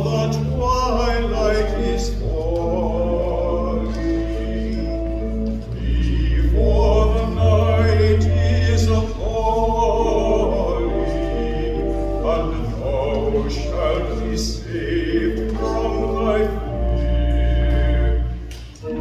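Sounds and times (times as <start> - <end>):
baritone voice singing: 0.0 - 19.0
organ chords: 0.0 - 19.0.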